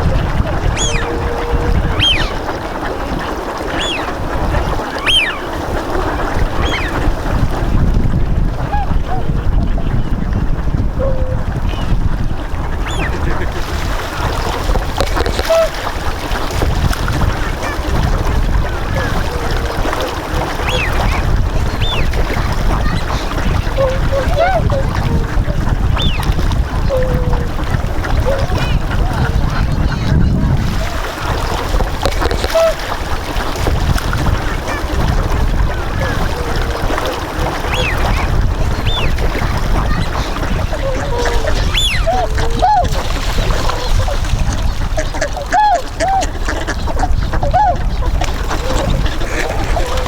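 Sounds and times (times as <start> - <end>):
swans calling: 0.0 - 7.3, 11.0 - 50.0
wind rumble on microphone: 0.0 - 50.0.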